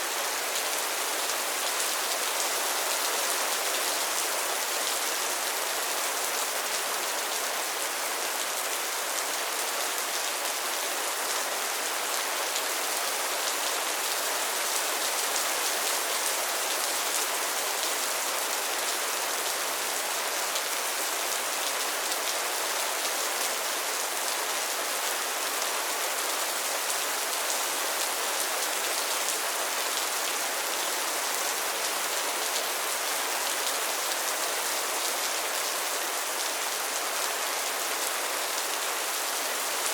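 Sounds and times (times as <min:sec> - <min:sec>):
rain falling on a pond: 0:00.0 - 0:39.9.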